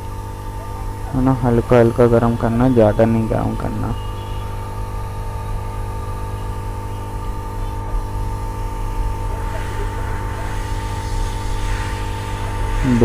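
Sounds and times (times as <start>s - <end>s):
hot-air gun fan hum: 0.0s - 13.0s.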